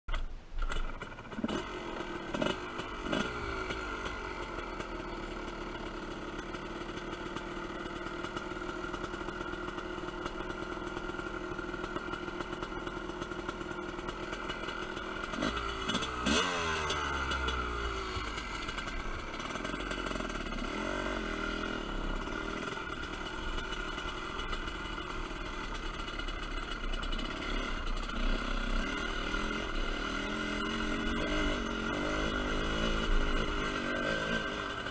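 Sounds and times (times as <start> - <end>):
dirt bike engine revving: 0.6 - 34.9.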